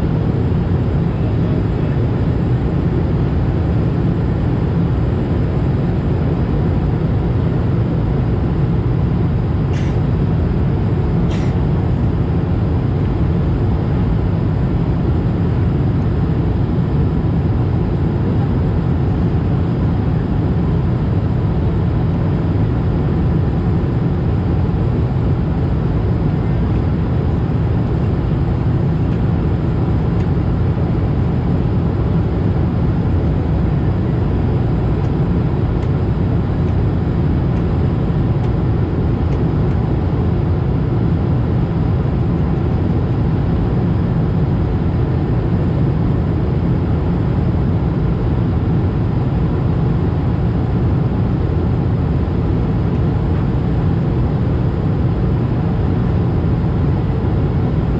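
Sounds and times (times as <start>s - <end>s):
jet engine drone: 0.0s - 57.9s.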